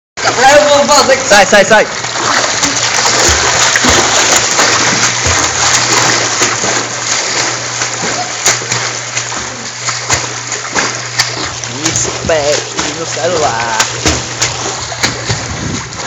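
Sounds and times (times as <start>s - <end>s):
swimmer splashing in pool: 0.2s - 16.0s.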